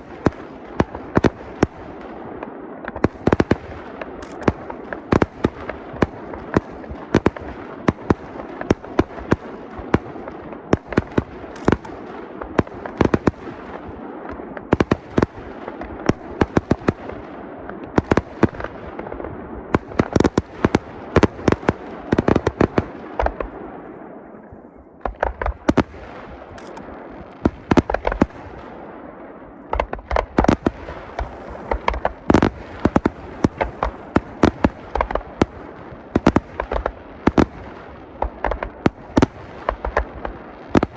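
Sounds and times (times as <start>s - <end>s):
fireworks bangs: 0.0s - 16.8s, 19.8s - 40.9s
rumble of firework shells: 0.0s - 40.9s.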